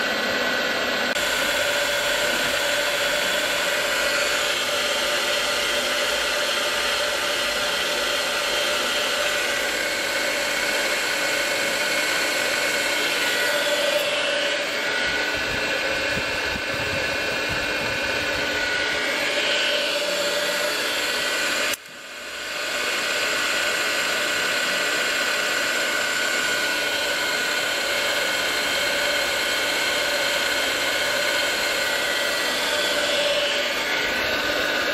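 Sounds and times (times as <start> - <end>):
milling machine whine: 0.0 - 34.9.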